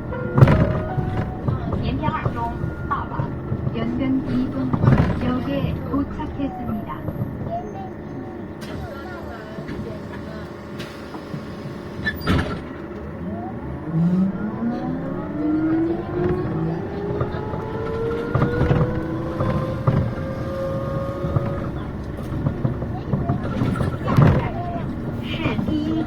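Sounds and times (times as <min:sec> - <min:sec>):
bus engine whine climbing: 0:00.0 - 0:26.0
low rumble and rattling: 0:00.0 - 0:26.0.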